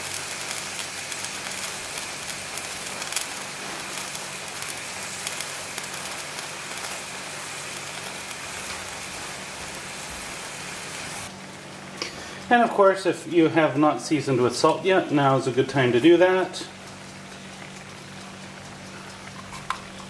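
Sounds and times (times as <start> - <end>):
small crackles and pops: 0.0 - 12.4, 16.0 - 20.0
chicken sizzling in a pan: 0.0 - 20.0.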